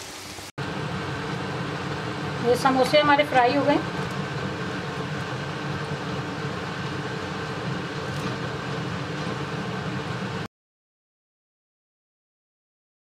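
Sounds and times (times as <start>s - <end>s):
food sizzling in hot oil: 0.0s - 10.5s.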